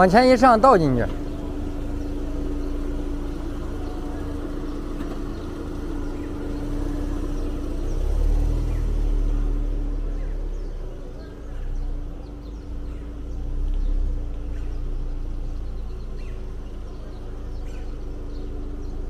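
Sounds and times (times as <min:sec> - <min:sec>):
car engine running slowly: 0:00.0 - 0:19.0.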